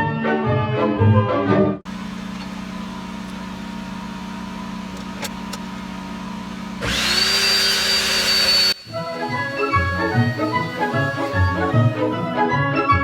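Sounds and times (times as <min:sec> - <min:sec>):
steady low hum: 0:01.9 - 0:12.4
electric power tool whining: 0:01.9 - 0:12.7.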